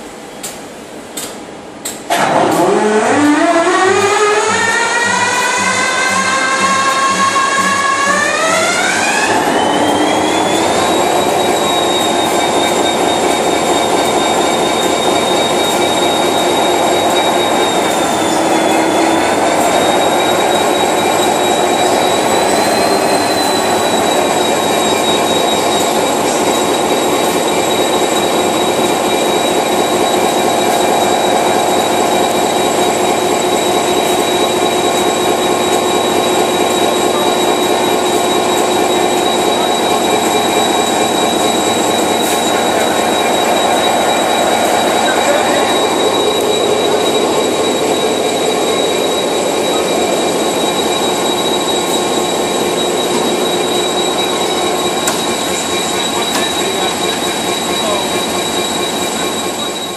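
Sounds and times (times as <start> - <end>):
diesel engine drone: 2.1 - 59.9
high turbocharger whine: 2.1 - 59.9.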